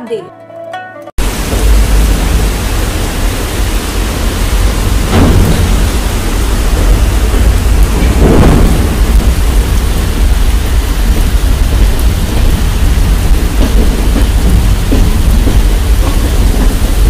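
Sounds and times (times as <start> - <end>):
rain and falling water: 1.2 - 17.0
wind buffeting microphone: 1.2 - 17.0.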